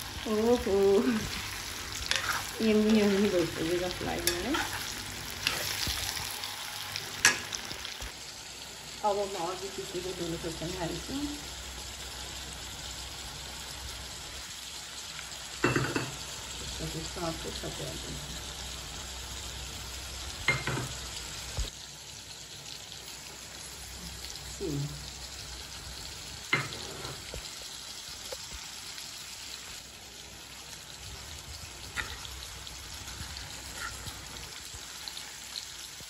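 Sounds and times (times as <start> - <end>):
mango slices sizzling in oil: 0.0 - 36.0.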